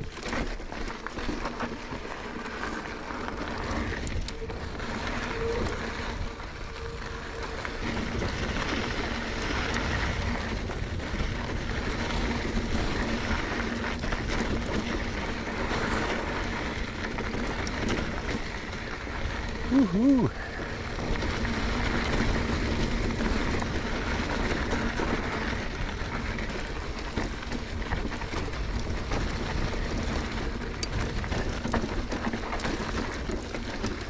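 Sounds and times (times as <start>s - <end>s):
bike clicks and rattles: 0.0s - 34.0s
tyres rolling over dirt and rock: 0.0s - 34.0s.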